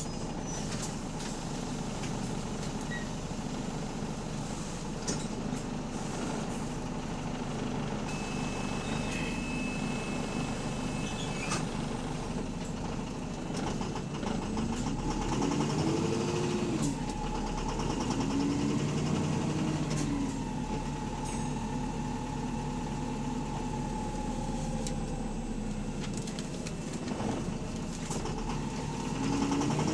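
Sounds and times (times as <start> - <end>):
bus engine knocking: 0.0 - 29.9.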